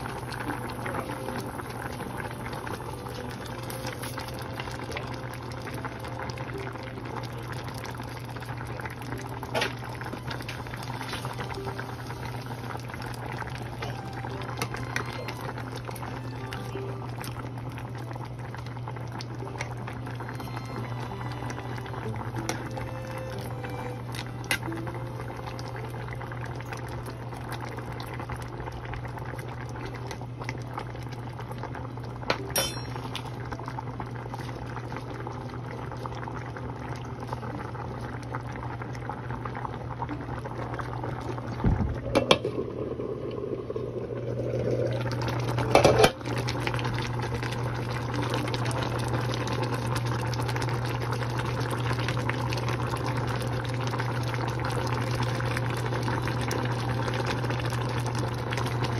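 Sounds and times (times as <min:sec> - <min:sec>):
broth bubbling in a pan: 0:00.0 - 0:58.9.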